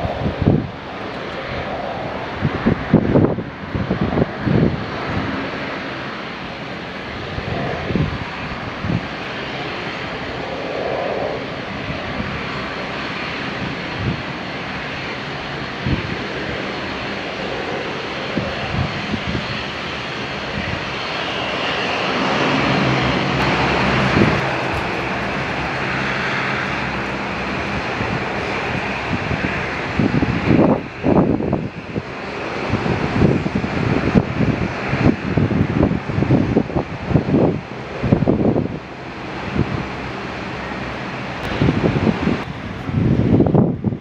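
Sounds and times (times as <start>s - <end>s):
turboprop propeller drone: 0.0s - 44.0s.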